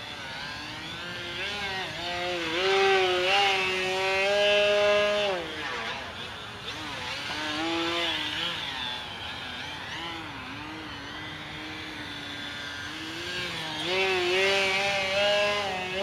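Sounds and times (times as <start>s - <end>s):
model plane motor droning: 0.0s - 16.0s.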